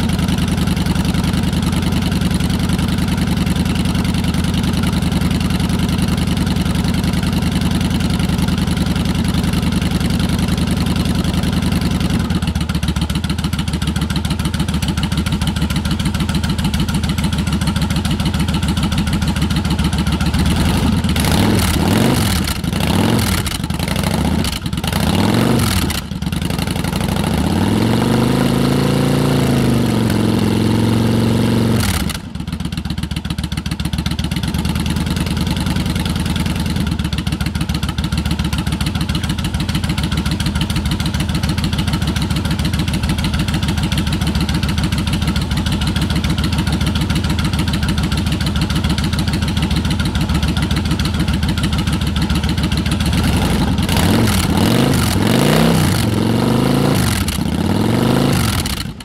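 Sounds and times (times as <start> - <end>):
motorcycle engine revving and idling: 0.0 - 59.0.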